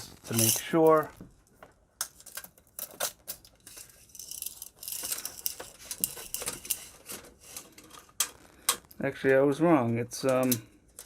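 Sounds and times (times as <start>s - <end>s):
plastic wrapping rustling: 0.0s - 9.1s.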